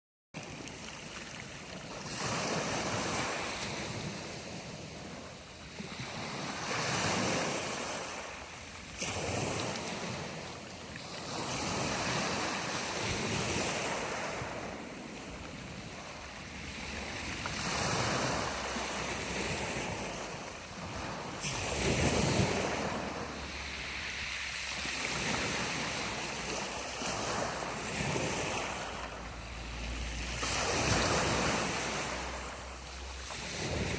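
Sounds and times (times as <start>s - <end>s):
waves breaking on shore: 0.4s - 33.9s.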